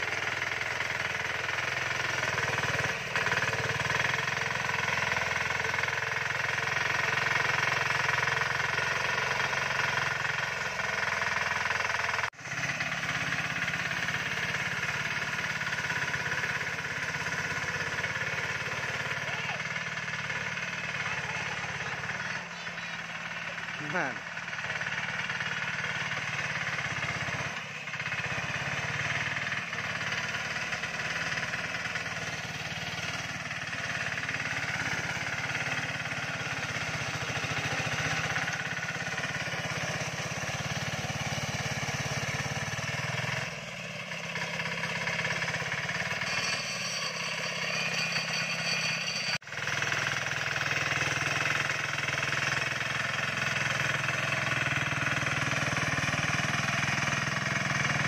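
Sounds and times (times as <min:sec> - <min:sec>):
small vehicle engine running: 0:00.0 - 0:58.0.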